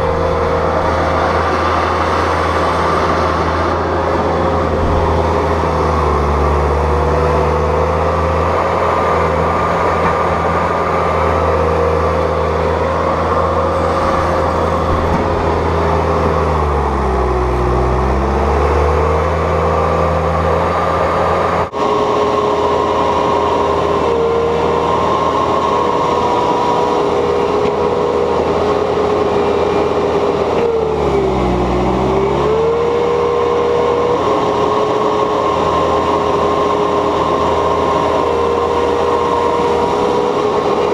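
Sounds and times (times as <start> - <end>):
diesel engine lugging under load: 0.0 - 40.9.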